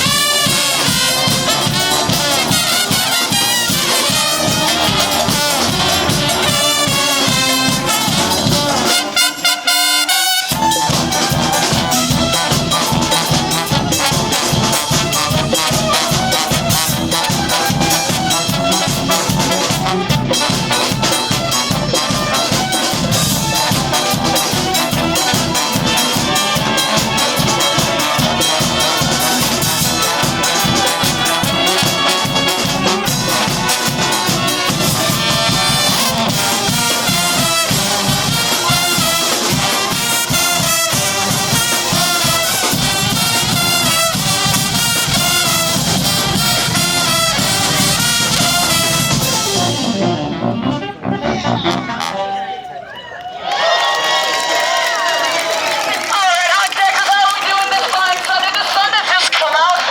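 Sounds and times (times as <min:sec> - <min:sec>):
steady drumbeat: 0:00.0 - 0:52.1
brass band playing: 0:00.0 - 0:59.9.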